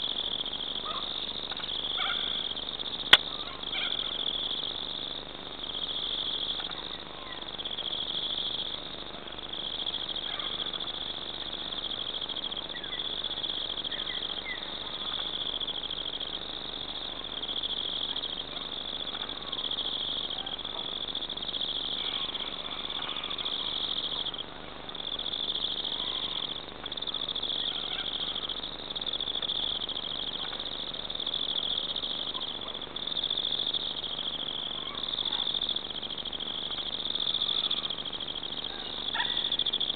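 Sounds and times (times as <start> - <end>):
faint insect chirps: 0.0 - 39.9
insect trilling chorus: 0.0 - 39.9.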